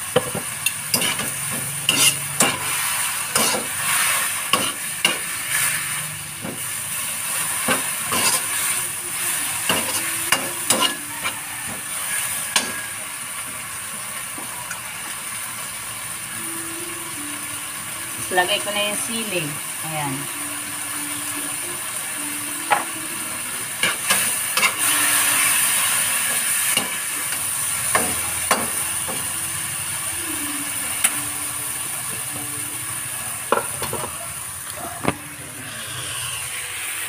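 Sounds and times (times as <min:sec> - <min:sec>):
vegetables sizzling in a pan: 0:00.0 - 0:37.0.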